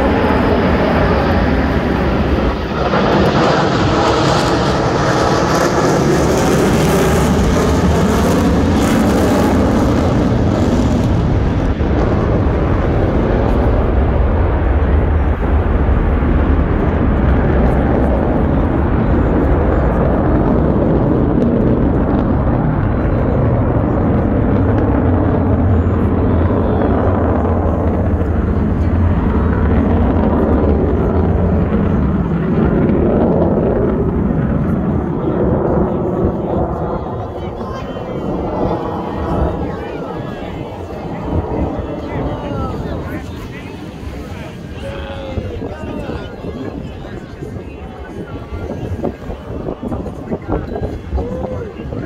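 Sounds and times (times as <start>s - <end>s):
jet roar: 0.0s - 52.0s.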